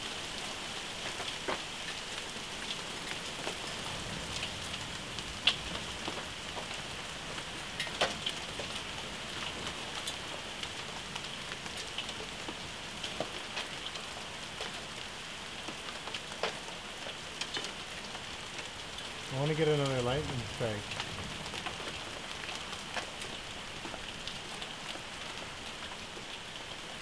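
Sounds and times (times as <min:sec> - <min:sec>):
heavy rain and hail hissing: 0:00.0 - 0:27.0.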